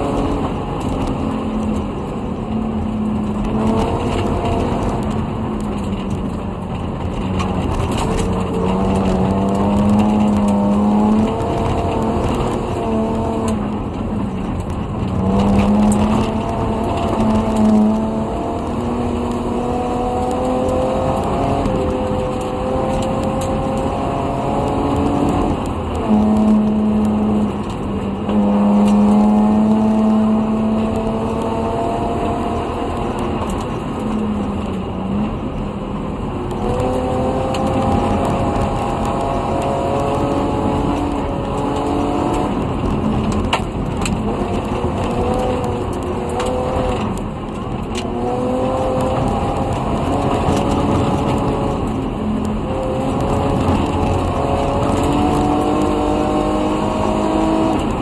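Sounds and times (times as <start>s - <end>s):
car engine revving through gears: 0.0s - 58.0s
gravel road noise: 0.0s - 58.0s.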